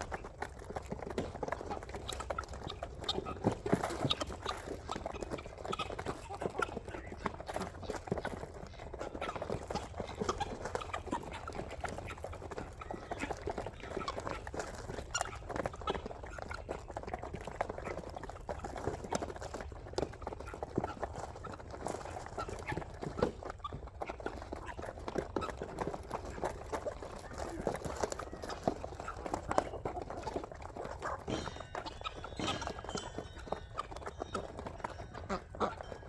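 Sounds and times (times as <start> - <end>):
poultry flock calling and clucking: 0.0 - 36.0.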